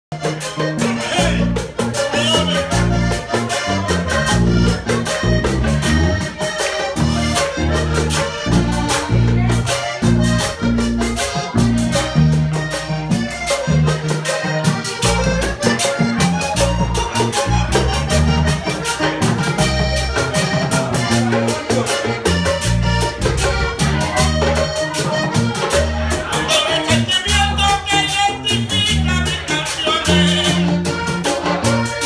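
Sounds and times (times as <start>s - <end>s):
button accordion melody: 0.1s - 32.0s
low bass notes: 0.1s - 32.0s
scraper rhythm: 0.1s - 32.0s
hand drum beat: 0.2s - 31.8s.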